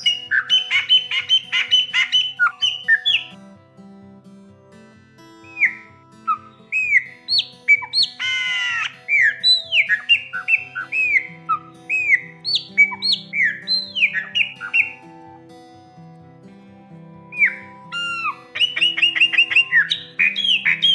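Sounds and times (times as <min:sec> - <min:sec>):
bird singing whistled notes: 0:00.0 - 0:03.4, 0:05.5 - 0:15.7, 0:17.2 - 0:20.9
soft background music: 0:00.0 - 0:20.9.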